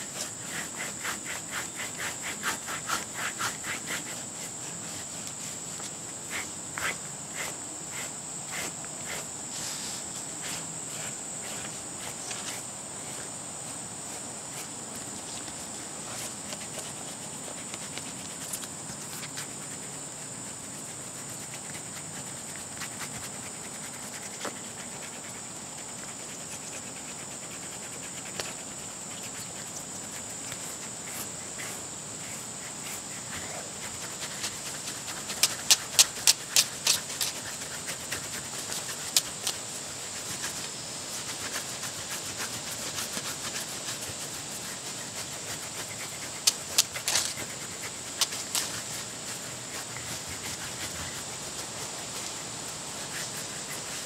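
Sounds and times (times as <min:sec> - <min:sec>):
brush rustling through dog fur: 0:00.0 - 0:54.0
steady high-pitched hiss: 0:00.0 - 0:54.0.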